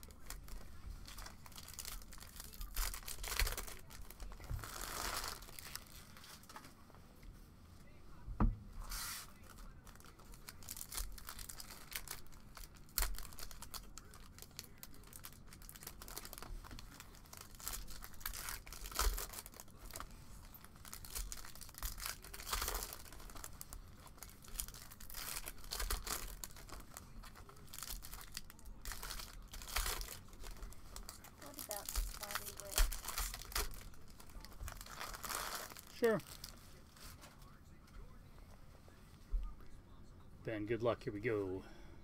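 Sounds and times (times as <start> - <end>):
foil wrappers rustling and tearing: 0.0 - 6.6, 8.9 - 37.3.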